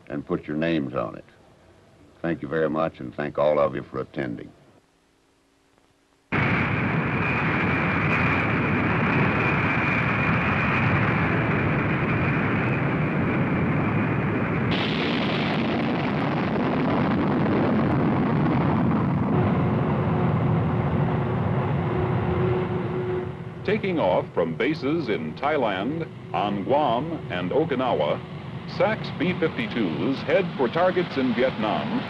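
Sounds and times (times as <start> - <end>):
low steady hum: 0.0 - 32.0
high whine: 5.6 - 32.0
jet engines roaring: 6.3 - 32.0.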